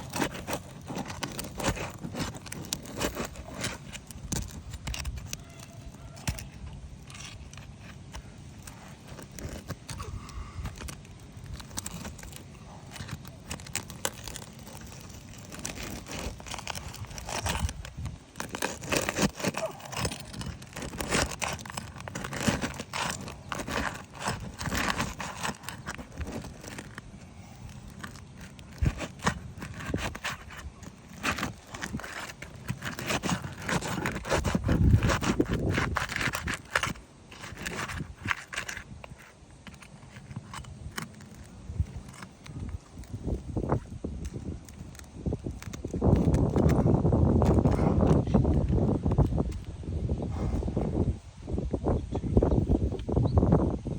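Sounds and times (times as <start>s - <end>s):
shingles scraping and tearing: 0.0s - 49.7s.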